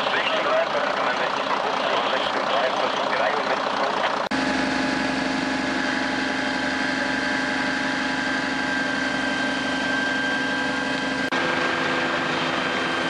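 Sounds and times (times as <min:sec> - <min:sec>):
fire truck engines idling: 0:00.0 - 0:13.0
high steady whine: 0:00.0 - 0:13.0.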